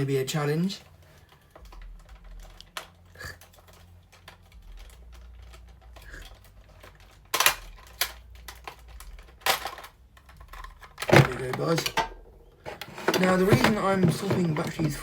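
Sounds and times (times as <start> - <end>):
sharp plastic clatter: 0.8 - 15.0.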